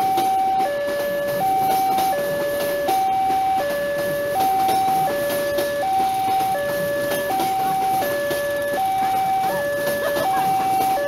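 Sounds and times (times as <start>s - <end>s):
train rumbling past: 0.0s - 11.0s
two-tone level crossing alarm: 0.0s - 11.0s.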